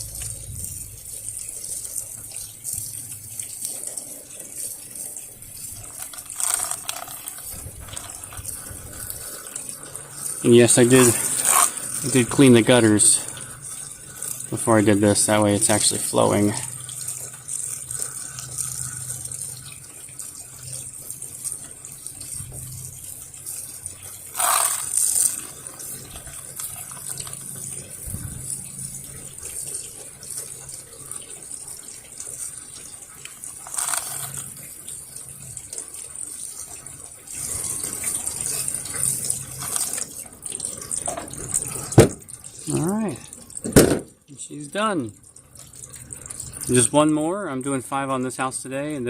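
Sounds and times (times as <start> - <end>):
hose spraying water: 0.0 - 45.1.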